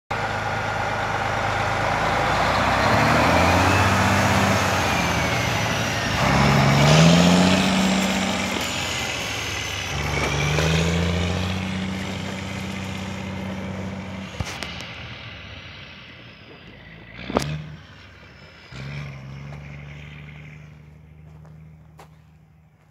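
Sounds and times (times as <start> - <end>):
truck diesel engine accelerating: 0.1 - 22.9.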